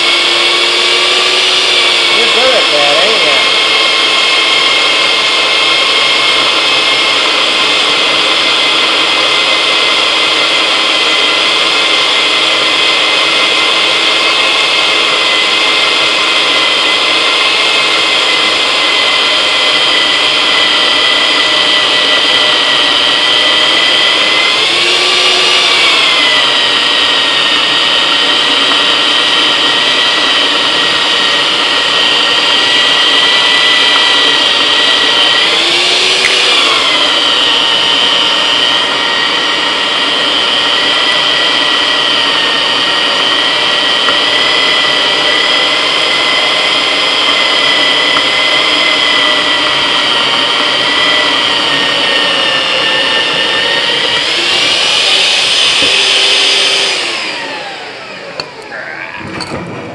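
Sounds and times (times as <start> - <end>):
drill press motor whining: 0.0 - 59.9.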